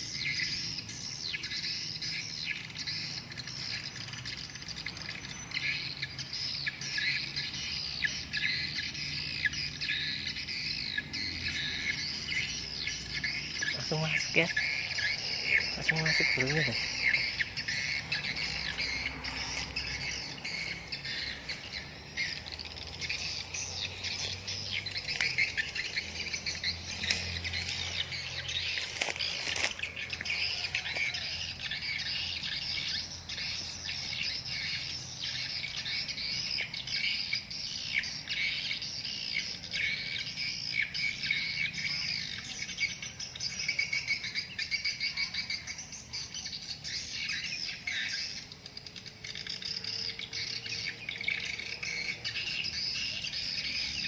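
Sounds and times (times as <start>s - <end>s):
swiftlets twittering and chirping: 0.0s - 54.0s.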